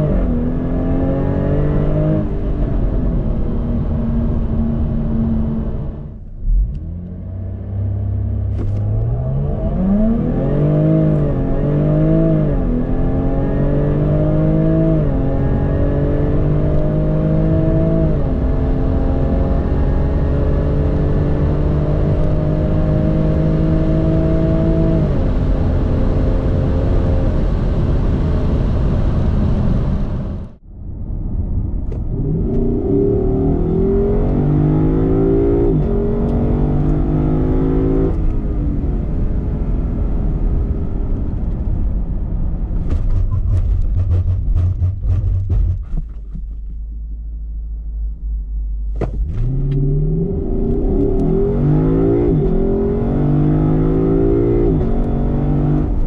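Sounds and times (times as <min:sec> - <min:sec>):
sports car engine accelerating: 0:00.0 - 0:30.6, 0:31.8 - 0:56.0.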